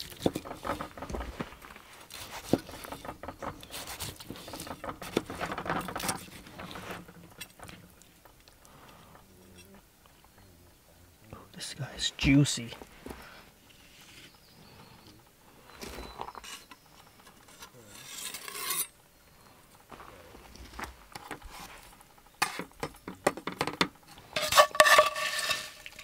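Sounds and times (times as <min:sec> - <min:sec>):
wooden spoon scraping skillet: 0:00.0 - 0:09.8, 0:12.8 - 0:15.0, 0:15.6 - 0:19.0, 0:19.9 - 0:26.0.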